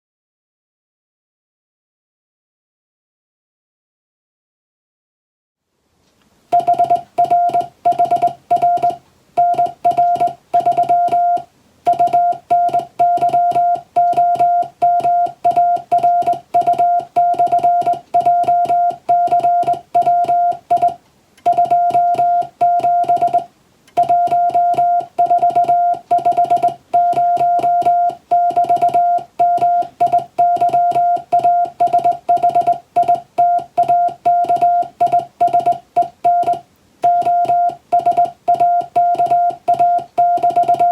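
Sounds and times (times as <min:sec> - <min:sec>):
morse code beeps: 0:06.5 - 0:40.9.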